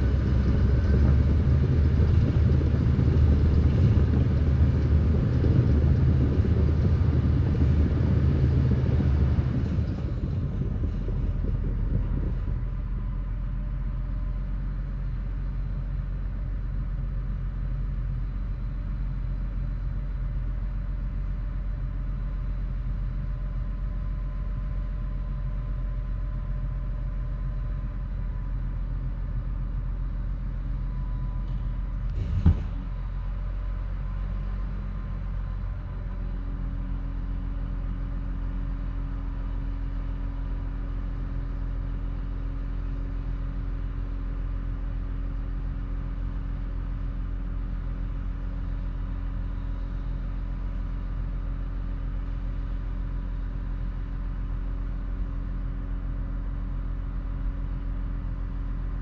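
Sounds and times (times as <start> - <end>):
bulldozer diesel engine rumbling: 0.0 - 59.0.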